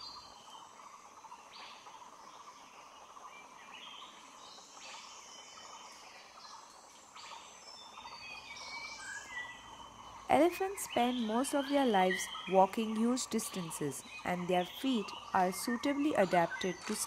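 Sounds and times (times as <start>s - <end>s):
faint birds chirping and whistling: 0.0s - 17.0s.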